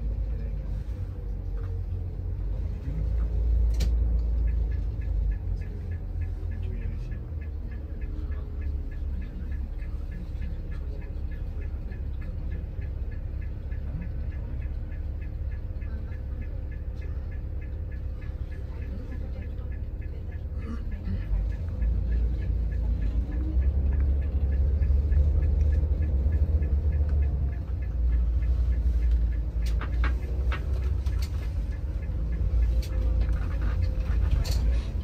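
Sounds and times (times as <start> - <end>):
bus engine and road rumble: 0.0 - 35.0
faint even ticking: 1.4 - 35.0.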